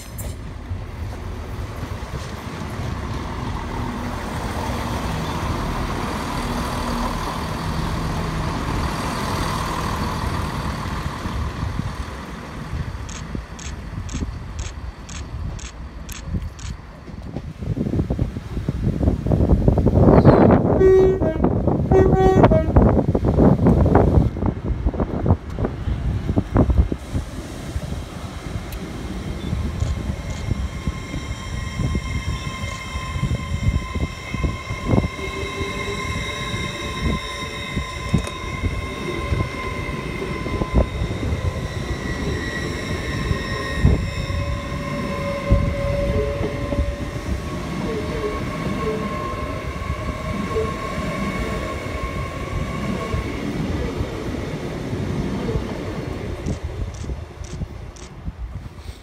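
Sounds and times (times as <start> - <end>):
electric train high whine: 0.0 - 59.0
train low rumble: 0.0 - 59.0.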